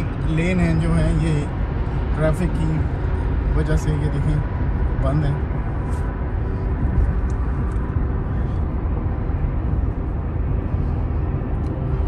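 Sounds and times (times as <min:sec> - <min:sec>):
car road noise from inside: 0:00.0 - 0:12.0.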